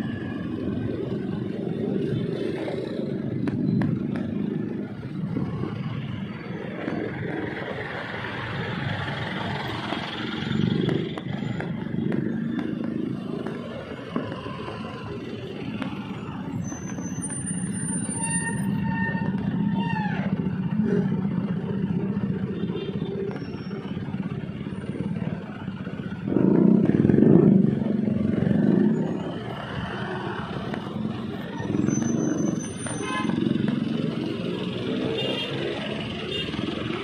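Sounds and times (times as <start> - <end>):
motorcycle and vehicle engines: 0.0 - 37.0.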